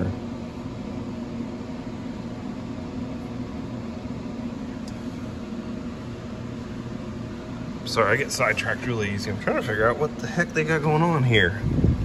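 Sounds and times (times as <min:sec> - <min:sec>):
low machine hum with hiss: 0:00.0 - 0:12.0.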